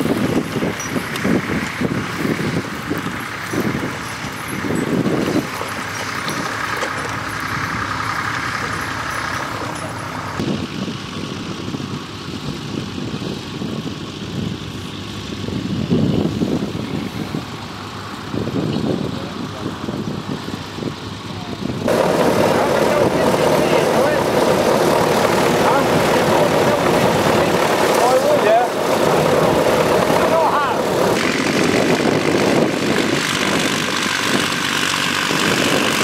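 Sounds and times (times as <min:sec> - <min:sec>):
tractor engines rumbling: 0:00.0 - 0:36.0.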